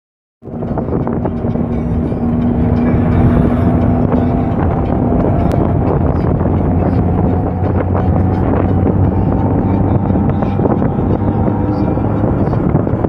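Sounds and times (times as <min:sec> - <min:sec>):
road and wind noise: 0:00.4 - 0:13.0
vehicle engine hum: 0:00.4 - 0:13.0.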